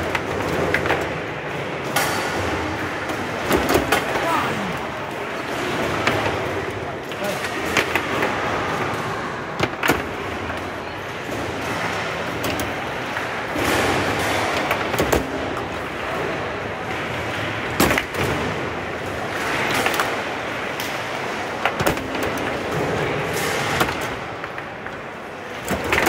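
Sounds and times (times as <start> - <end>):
foosball ball clacks: 0.0 - 26.0
foosball rods banging: 0.0 - 26.0
steady background noise: 0.0 - 26.0.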